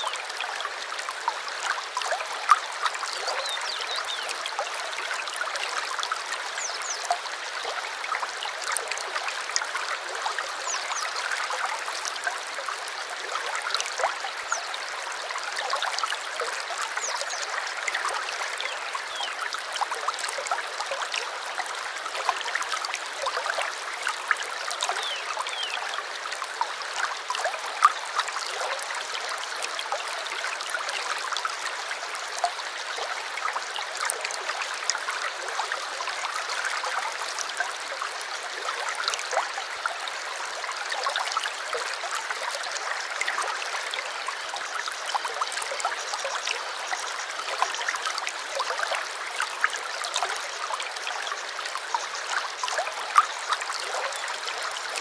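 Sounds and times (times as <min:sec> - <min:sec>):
small stream trickling: 0:00.0 - 0:55.0.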